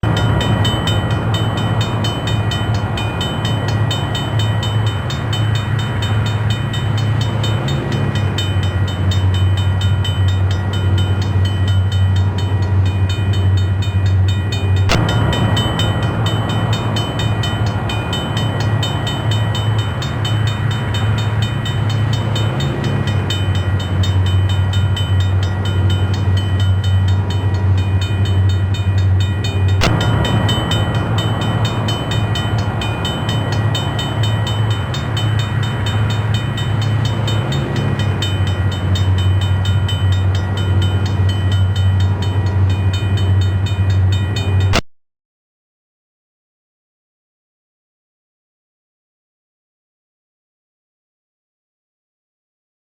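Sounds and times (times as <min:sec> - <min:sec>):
train rumbling: 0:00.0 - 0:44.8.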